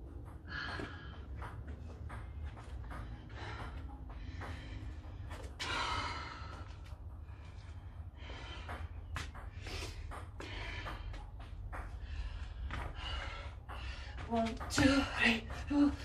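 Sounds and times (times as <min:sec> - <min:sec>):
woman breathing hard: 0:00.2 - 0:01.7, 0:02.6 - 0:14.3.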